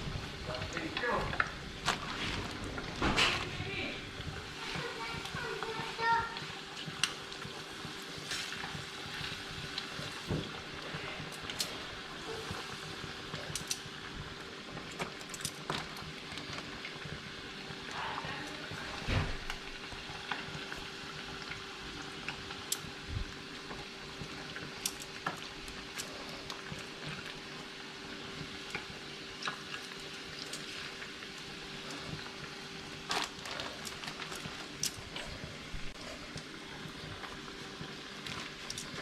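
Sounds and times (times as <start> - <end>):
fish sizzling in hot oil: 0.0 - 39.0
oil popping and crackling: 0.0 - 39.0.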